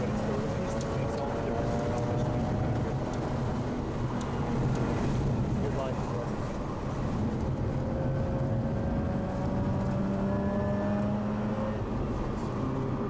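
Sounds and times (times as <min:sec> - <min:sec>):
road noise: 0:00.0 - 0:13.0
rotary engine running at speed: 0:00.0 - 0:13.0.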